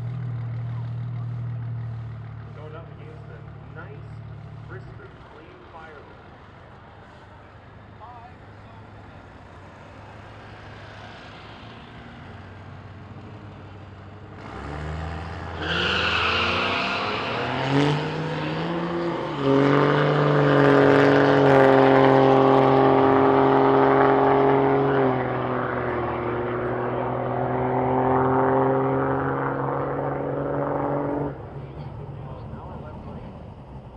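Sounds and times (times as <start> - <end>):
drag-racing truck engine: 0.0 - 33.9.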